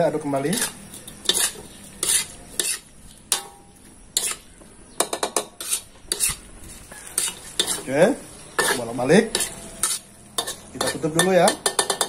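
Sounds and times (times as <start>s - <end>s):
metal spatula scraping a wok: 0.4s - 4.5s, 5.4s - 12.0s.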